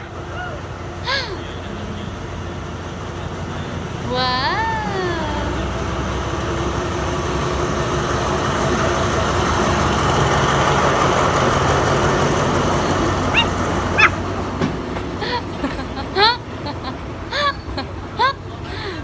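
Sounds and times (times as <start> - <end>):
diesel train passing: 0.0 - 19.0
rumbling wheels: 0.0 - 19.0.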